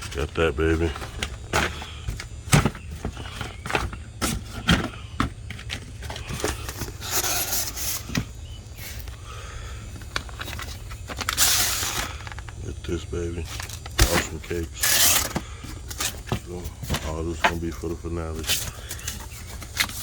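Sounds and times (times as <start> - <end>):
handling knocks and clicks: 0.0 - 9.2, 9.9 - 20.0
rustling: 0.0 - 20.0.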